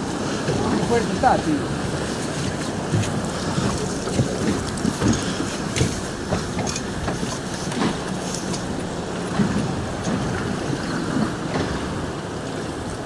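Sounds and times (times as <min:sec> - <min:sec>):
water against hull: 0:00.0 - 0:13.0
wind: 0:00.0 - 0:13.0.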